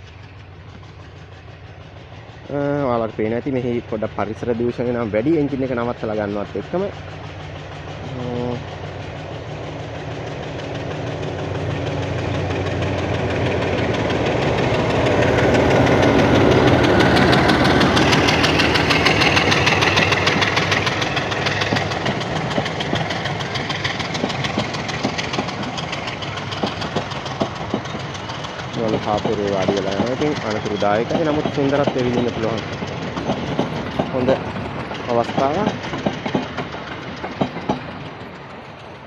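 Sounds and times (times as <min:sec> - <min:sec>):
diesel locomotive engine: 0:00.0 - 0:39.0
train wheels clattering on rails: 0:00.0 - 0:39.0.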